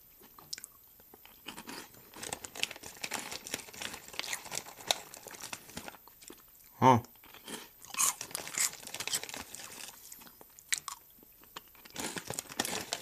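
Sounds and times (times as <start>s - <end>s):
snack crunching while chewed: 0.2s - 13.0s
snack bag crinkling: 1.4s - 6.5s, 7.3s - 13.0s.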